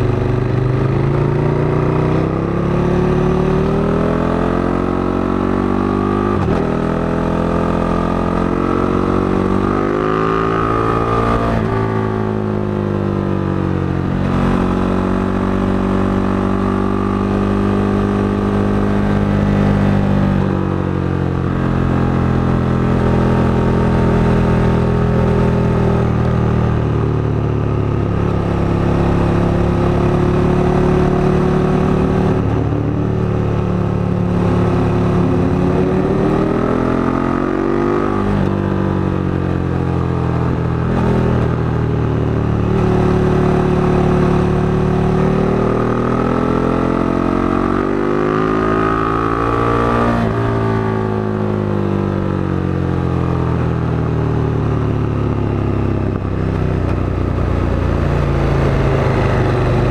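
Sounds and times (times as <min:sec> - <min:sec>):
motorcycle engine running: 0:00.0 - 0:03.7, 0:07.6 - 0:59.9.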